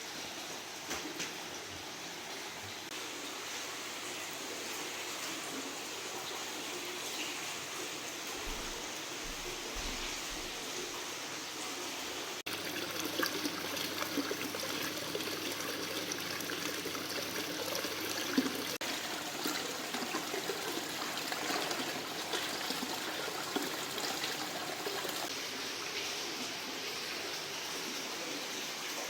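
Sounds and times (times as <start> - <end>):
water trickling and splashing: 0.0 - 29.0.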